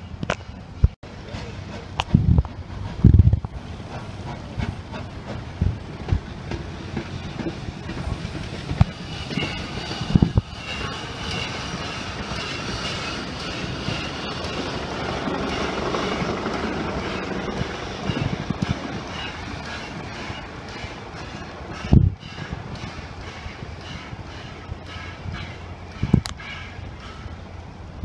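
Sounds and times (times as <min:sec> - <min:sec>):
train rushing running noise: 0:00.0 - 0:28.0
train wheels knocking over rail joints: 0:01.3 - 0:27.3.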